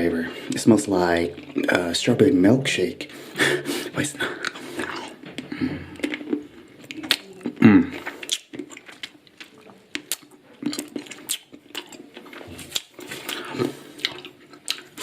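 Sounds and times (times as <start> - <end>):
person chewing candy: 0.4 - 2.1, 3.0 - 15.0.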